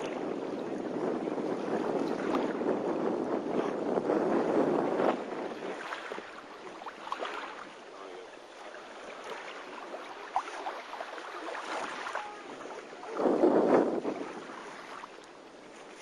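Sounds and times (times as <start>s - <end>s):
water moving around boat: 0.0s - 16.0s
wind on microphone: 0.0s - 16.0s.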